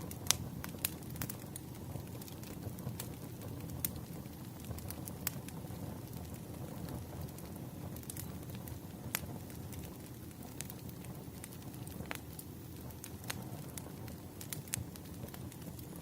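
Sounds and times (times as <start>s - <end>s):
firewood crackling and popping: 0.0s - 16.0s
low rumble of fire: 0.0s - 16.0s.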